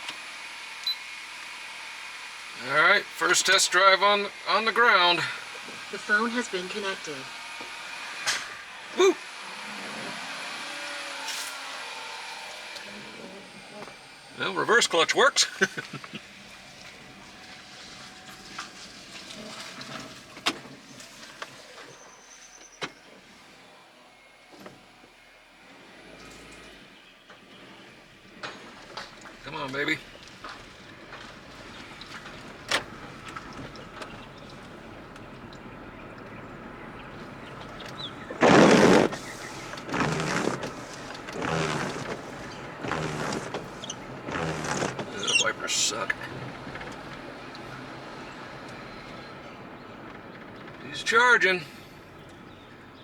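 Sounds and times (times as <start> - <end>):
car cabin driving noise: 2.5 - 53.0
windshield wipers sweeping: 4.5 - 23.7, 24.4 - 51.4.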